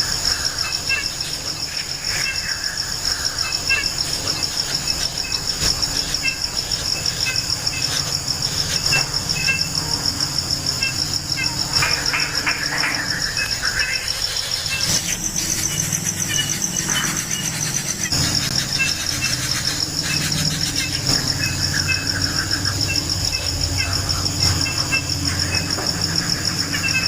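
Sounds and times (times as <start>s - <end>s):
faint chirps: 0.0s - 27.0s
insect trilling: 0.0s - 27.0s.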